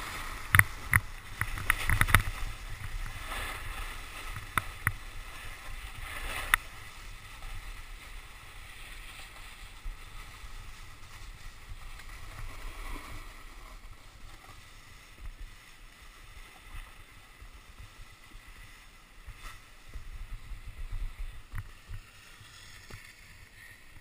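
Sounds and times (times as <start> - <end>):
snowboard scraping over slushy snow: 0.0 - 24.0
wind rumble on microphone: 0.0 - 24.0.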